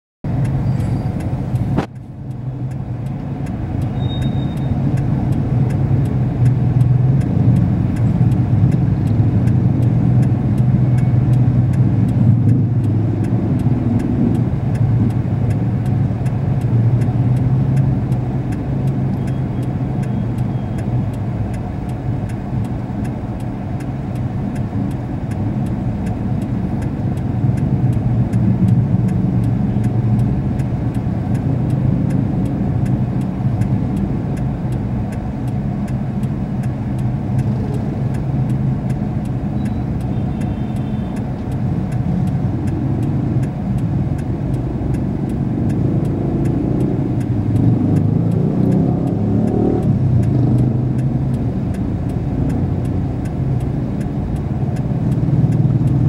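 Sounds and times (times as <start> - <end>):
car engine and traffic drone: 0.2 - 56.0
faint regular ticking: 0.3 - 56.0.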